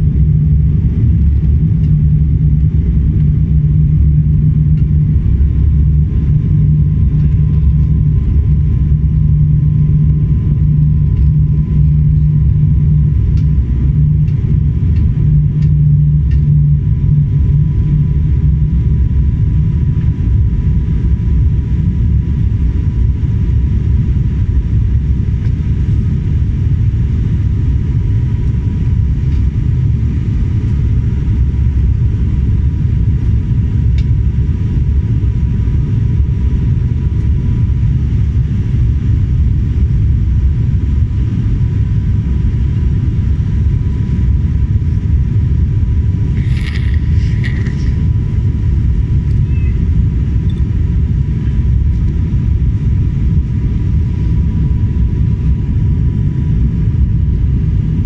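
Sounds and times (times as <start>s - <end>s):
airliner cabin rumble: 0.0s - 58.0s
faint steady whine: 0.0s - 58.0s.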